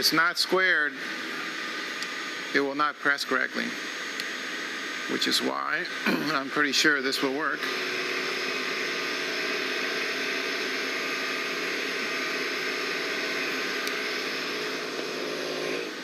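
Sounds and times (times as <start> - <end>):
machine whir: 0.0 - 16.0.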